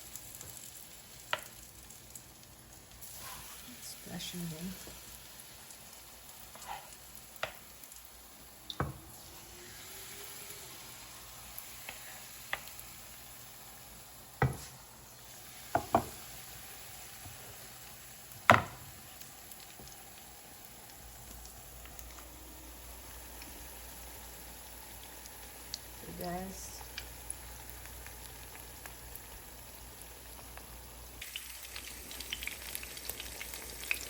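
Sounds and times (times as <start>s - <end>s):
frying in hot oil sizzle: 0.0s - 34.0s.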